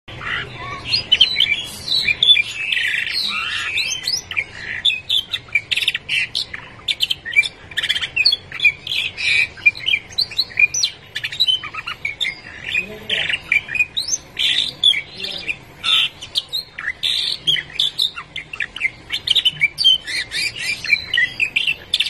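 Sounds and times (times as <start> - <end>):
canary singing: 0.1 - 22.0.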